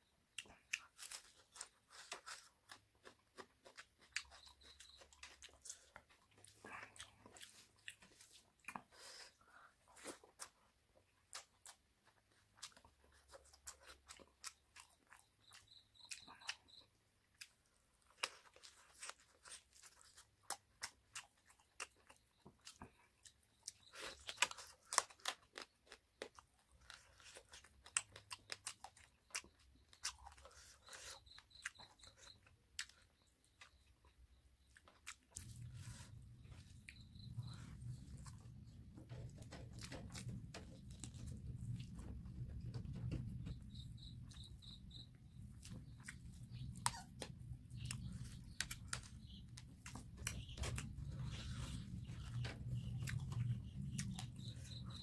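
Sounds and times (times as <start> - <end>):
food crunching: 0.3 - 9.3, 11.2 - 55.0
wet chewing and lip-smacking: 0.3 - 10.6, 11.2 - 55.0.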